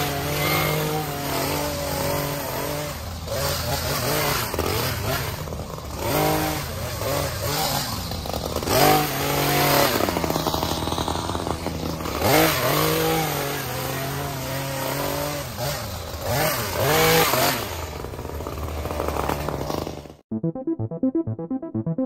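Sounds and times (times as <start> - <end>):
chainsaw engine revving: 0.0 - 20.2.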